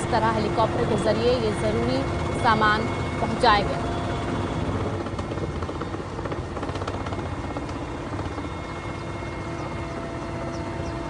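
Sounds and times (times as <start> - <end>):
constant whining tones: 0.0 - 11.0
helicopter engine and rotor drone: 0.0 - 11.0.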